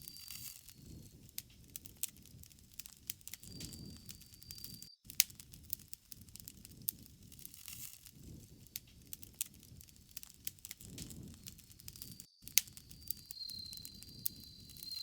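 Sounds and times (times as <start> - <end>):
low rumble of flame: 0.0 - 15.0
wood fire snapping and popping: 0.0 - 15.0.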